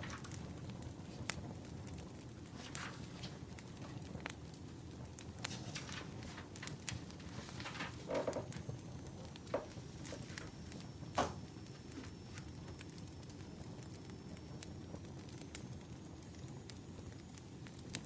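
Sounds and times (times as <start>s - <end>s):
firewood crackling: 0.0s - 18.0s.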